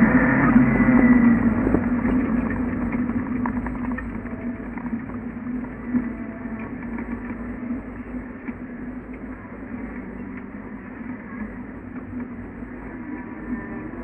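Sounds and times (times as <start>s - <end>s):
car engine droning at low revs: 0.0s - 14.0s.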